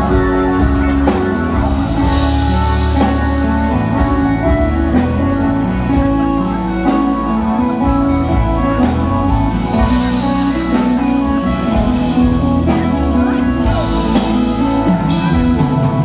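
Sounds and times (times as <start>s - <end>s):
live band held melodic notes: 0.0s - 16.0s
steady drum beat: 0.0s - 16.0s.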